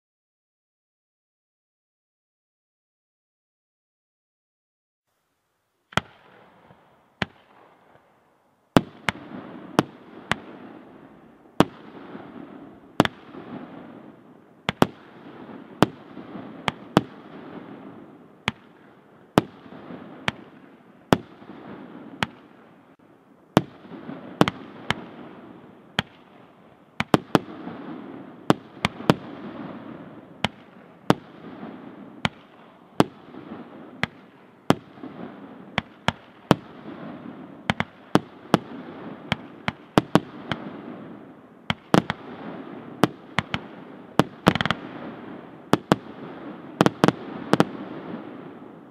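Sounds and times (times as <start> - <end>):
steady rushing hiss: 5.1 - 48.9.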